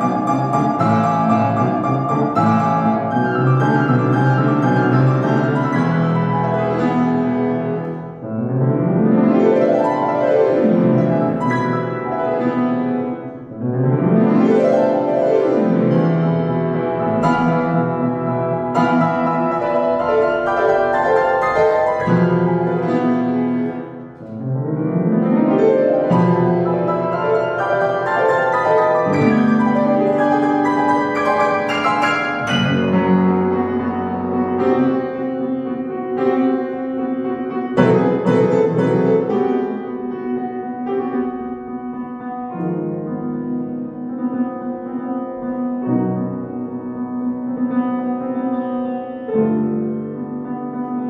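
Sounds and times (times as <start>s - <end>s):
solo upright piano: 0.0s - 51.0s.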